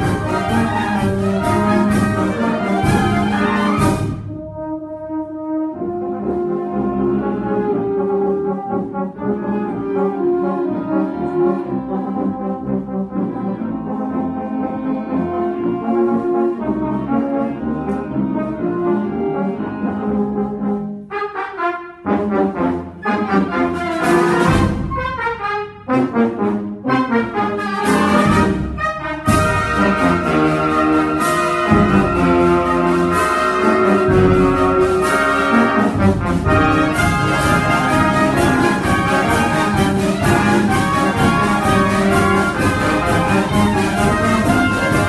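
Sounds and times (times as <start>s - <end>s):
brass band playing a march: 0.0s - 45.0s.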